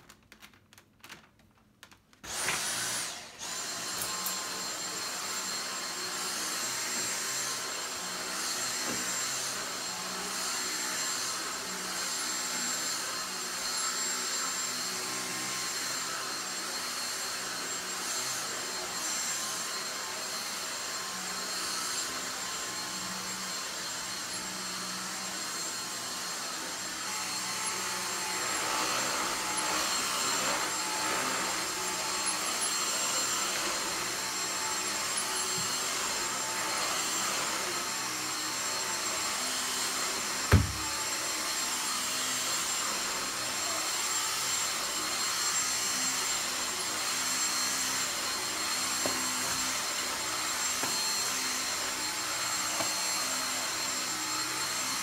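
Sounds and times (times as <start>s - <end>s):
vacuum cleaner whining: 2.2s - 55.0s.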